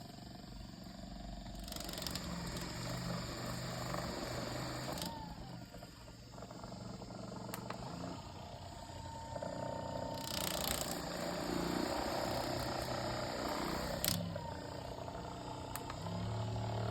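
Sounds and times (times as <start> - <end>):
massage gun motor buzzing: 0.0 - 16.9.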